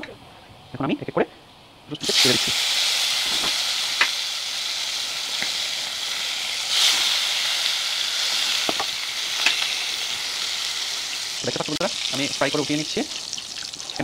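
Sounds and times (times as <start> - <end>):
chicken frying in hot oil: 2.0 - 14.0.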